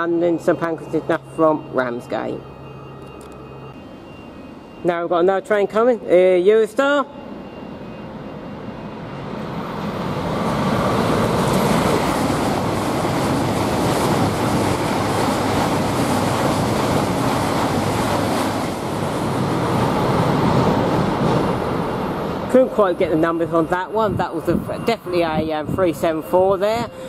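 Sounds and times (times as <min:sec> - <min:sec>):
high-speed train passing: 0:00.0 - 0:27.0.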